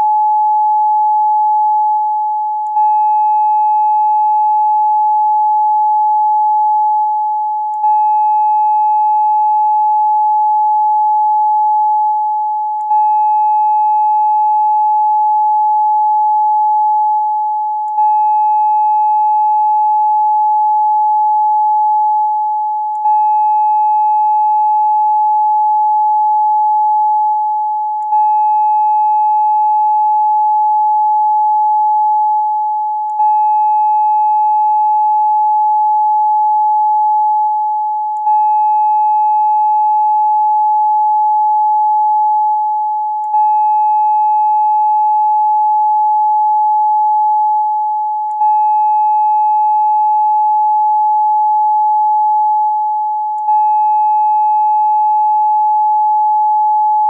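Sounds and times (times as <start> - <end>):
steady pure tone: 0.0 - 57.0.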